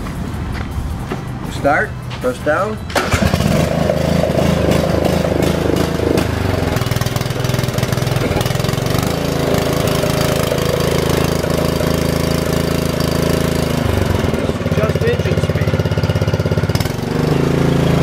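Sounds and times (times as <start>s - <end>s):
riding lawn mower engine running: 0.0s - 18.0s.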